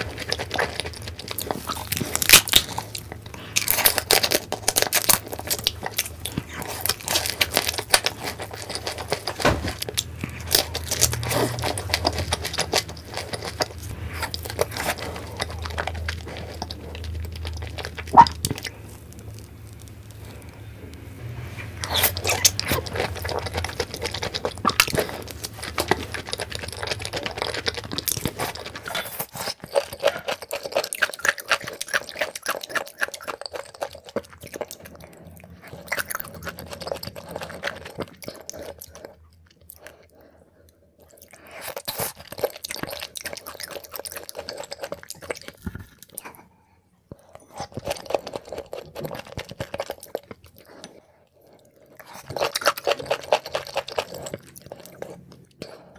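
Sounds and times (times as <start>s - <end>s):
wet chewing and biting: 0.0s - 55.9s.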